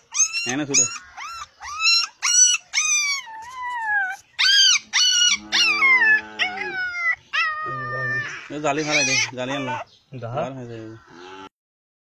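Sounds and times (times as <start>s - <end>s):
puppy yelping and whining: 0.0s - 9.9s.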